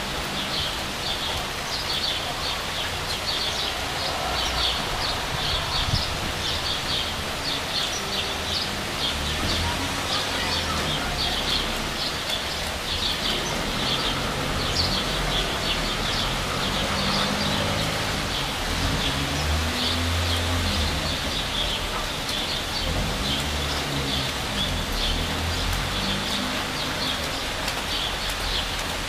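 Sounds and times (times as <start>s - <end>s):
birds chirping: 0.0s - 29.0s
steady rain falling: 0.0s - 29.0s.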